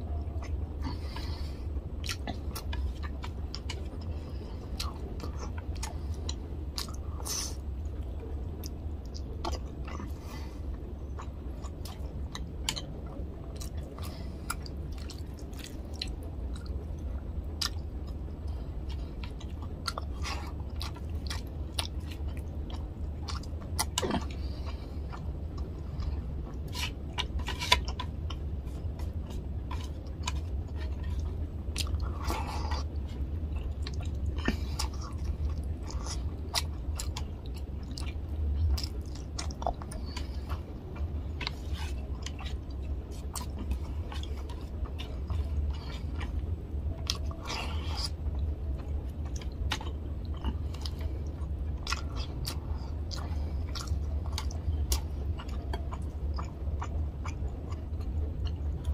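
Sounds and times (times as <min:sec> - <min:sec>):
steady low hum: 0:00.0 - 0:58.9
person chewing food: 0:00.1 - 0:58.9.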